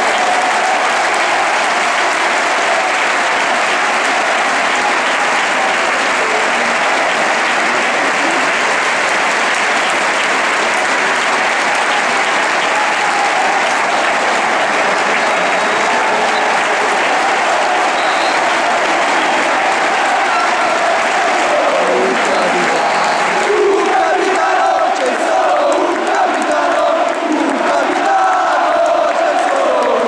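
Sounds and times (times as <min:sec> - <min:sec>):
stadium crowd applauding: 0:00.0 - 0:30.0.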